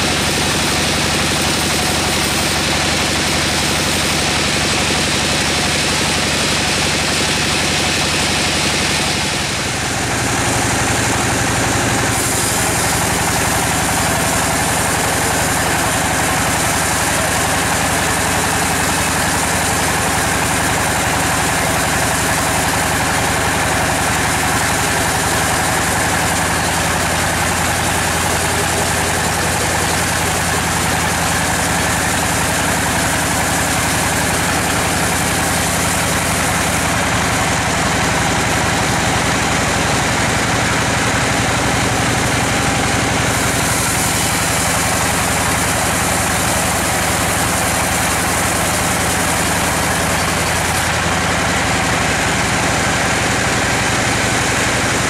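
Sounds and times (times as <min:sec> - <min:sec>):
band saw cutting a log: 0:00.0 - 0:55.0.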